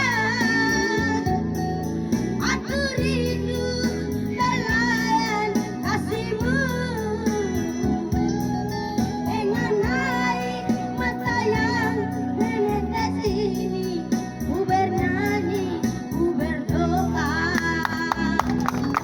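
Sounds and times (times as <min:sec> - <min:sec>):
person singing with vibrato: 0:00.0 - 0:18.6.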